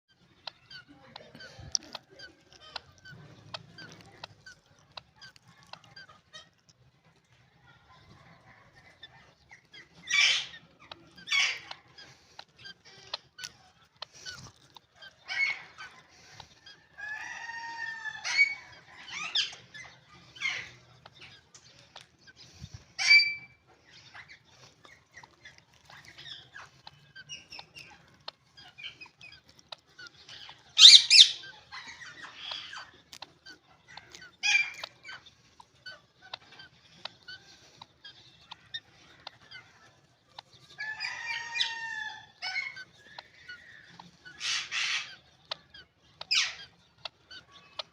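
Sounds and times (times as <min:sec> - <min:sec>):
parakeets squawking and chirping: 0:00.1 - 0:47.9.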